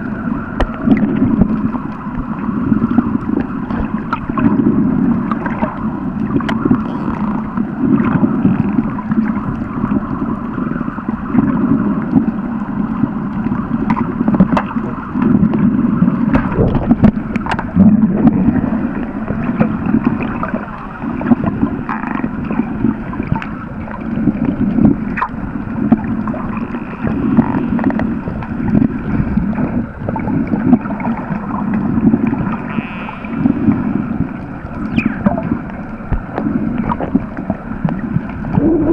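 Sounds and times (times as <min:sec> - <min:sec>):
underwater churning rush: 0:00.0 - 0:38.9.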